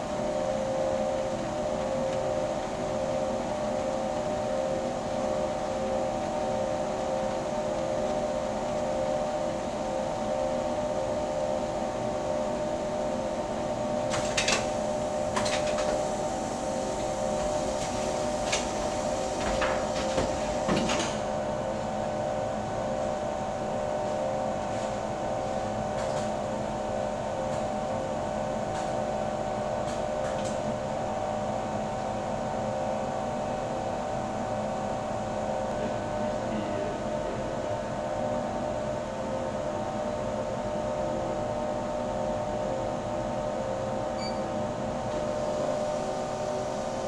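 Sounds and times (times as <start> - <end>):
production machinery humming: 0.0 - 37.9, 44.0 - 47.0.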